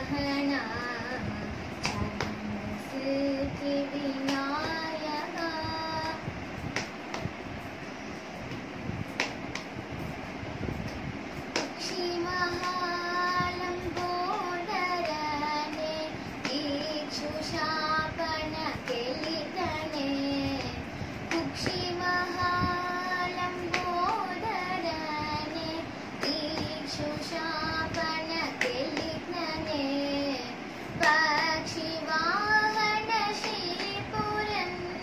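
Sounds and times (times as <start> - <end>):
girl singing: 0.0 - 6.5, 11.5 - 35.0.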